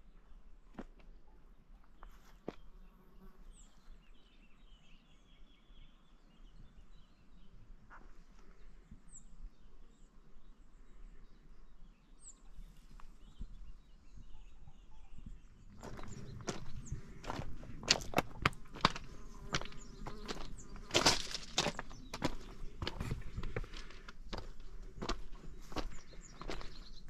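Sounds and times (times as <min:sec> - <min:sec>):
faint outdoor ambience: 0:00.0 - 0:27.0.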